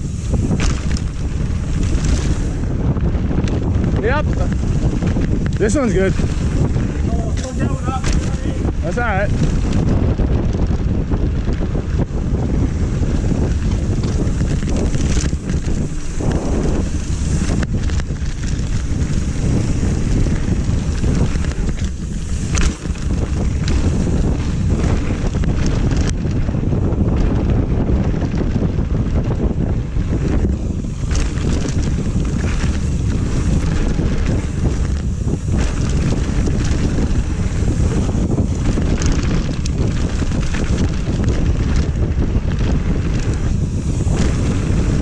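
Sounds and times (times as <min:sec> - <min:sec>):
bike rattling knocks: 0:00.0 - 0:45.0
tyre rumble on dirt: 0:00.0 - 0:45.0
wind blasting microphone: 0:00.0 - 0:45.0.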